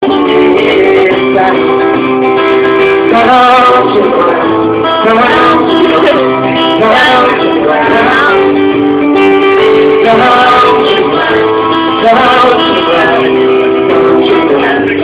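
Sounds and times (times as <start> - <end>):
person singing: 0.0 - 15.0
strummed guitar: 0.0 - 15.0.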